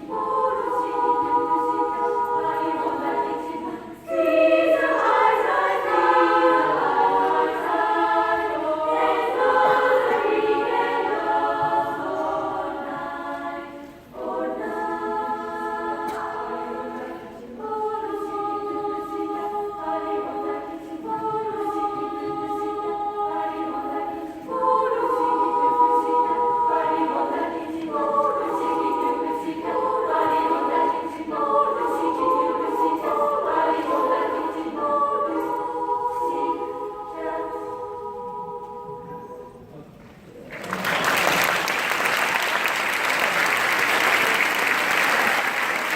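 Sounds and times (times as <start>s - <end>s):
children's choir singing: 0.0s - 45.9s.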